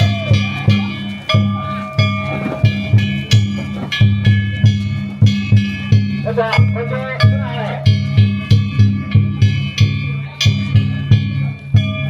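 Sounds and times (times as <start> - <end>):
big drum thuds: 0.0 - 12.0
hand-struck gongs ringing: 0.0 - 12.0.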